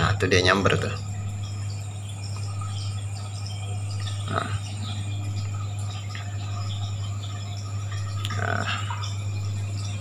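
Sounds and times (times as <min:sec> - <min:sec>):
air bubbles in water: 0:00.0 - 0:10.0
aquarium filter pump humming: 0:00.0 - 0:10.0.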